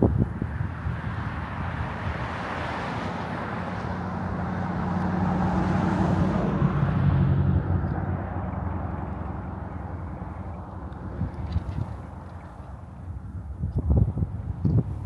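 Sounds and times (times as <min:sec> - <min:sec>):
vehicle passing on road: 0:00.0 - 0:13.4.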